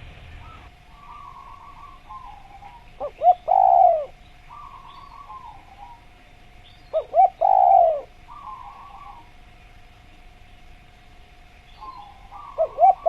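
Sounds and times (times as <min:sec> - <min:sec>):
dove cooing: 0:00.0 - 0:09.5, 0:11.7 - 0:13.0
faint bird twittering: 0:00.0 - 0:13.0.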